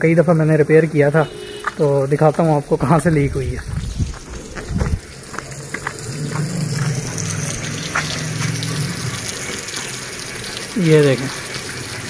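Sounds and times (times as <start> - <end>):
water splashing onto concrete: 1.2 - 12.0.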